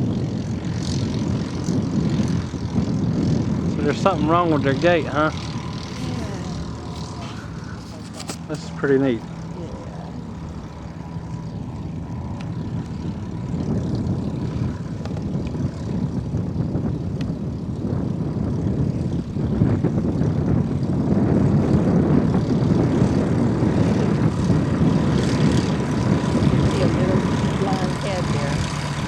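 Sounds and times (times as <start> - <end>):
propeller airplane engine: 0.0 - 29.0.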